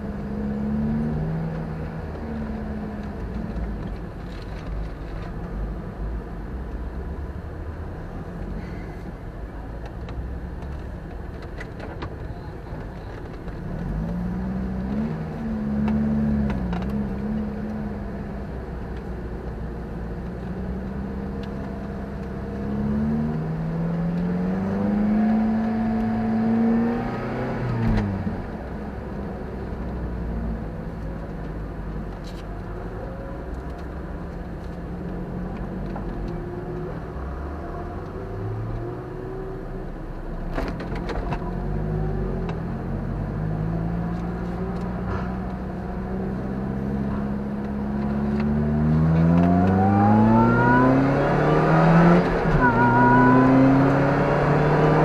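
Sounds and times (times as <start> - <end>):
car engine accelerating through gears: 0.0 - 55.0.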